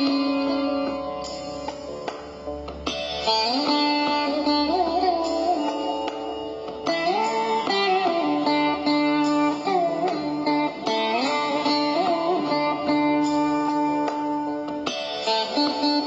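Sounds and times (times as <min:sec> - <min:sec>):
plucked string instrument melody: 0:00.0 - 0:16.0.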